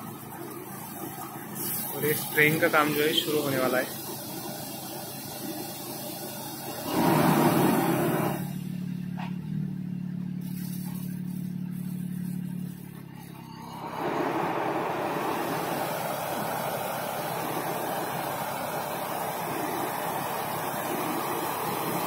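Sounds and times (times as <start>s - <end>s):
sprayer fan blowing: 0.0s - 9.6s, 10.4s - 22.0s
tractor engine running: 0.0s - 22.0s.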